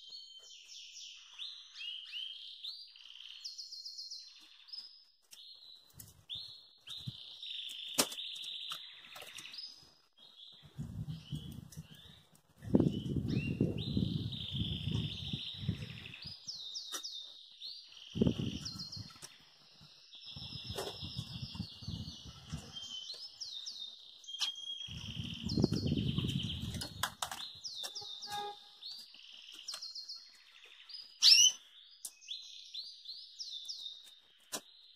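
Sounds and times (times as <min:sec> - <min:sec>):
finch singing trills and chirps: 0:00.0 - 0:34.9.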